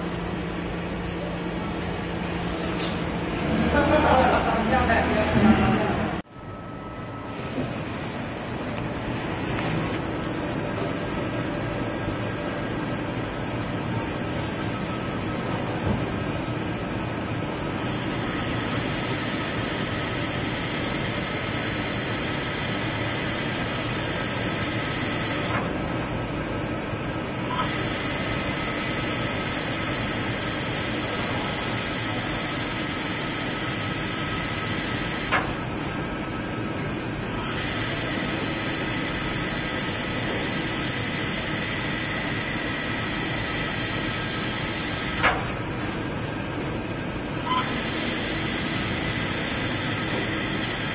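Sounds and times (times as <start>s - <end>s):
high machine whine: 0.0s - 50.9s.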